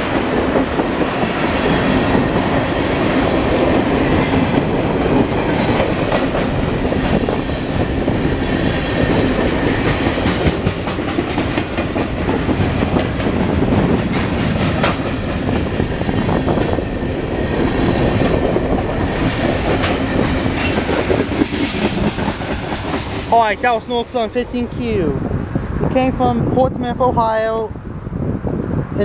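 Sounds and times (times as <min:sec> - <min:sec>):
wheels clacking over rail joints: 0:00.0 - 0:24.2
freight train rumbling: 0:00.0 - 0:29.0.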